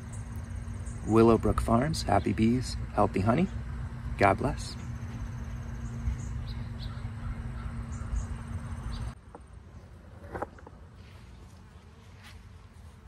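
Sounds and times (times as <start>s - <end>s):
low rumble with hum: 0.0s - 13.0s.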